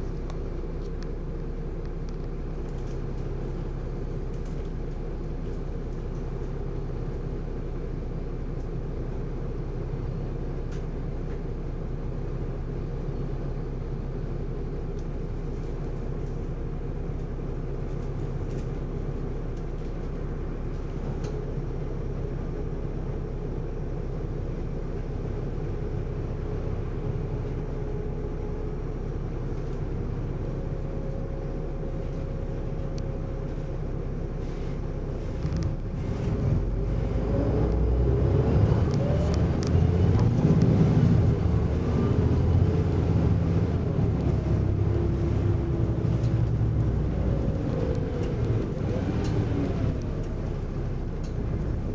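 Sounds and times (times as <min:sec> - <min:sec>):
bus diesel engine: 0:00.0 - 0:51.9.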